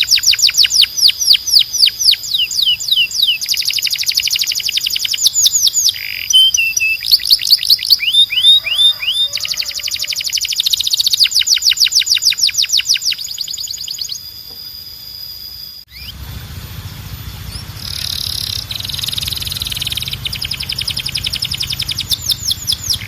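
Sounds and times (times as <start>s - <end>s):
canary singing fast trills: 0.0s - 23.0s.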